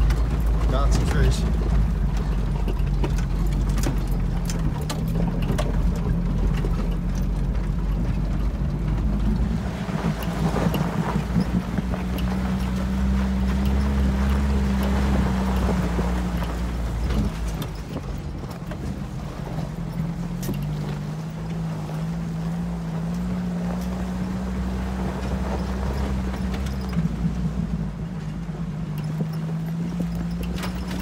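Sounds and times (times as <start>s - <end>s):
sharp knocks and rattles: 0.0s - 21.7s, 22.4s - 31.0s
vehicle engine running: 0.0s - 31.0s.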